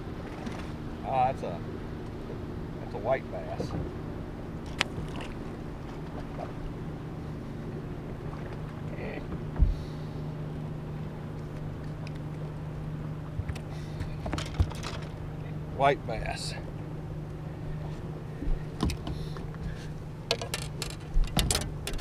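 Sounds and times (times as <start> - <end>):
electric boat motor humming: 0.0 - 22.0.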